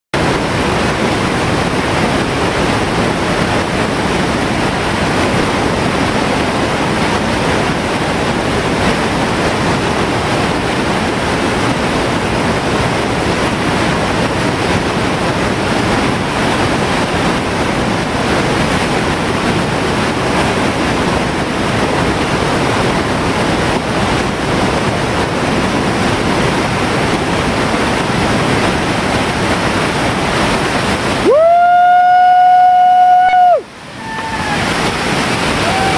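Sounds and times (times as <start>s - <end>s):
water rushing over boulders: 0.2s - 35.9s.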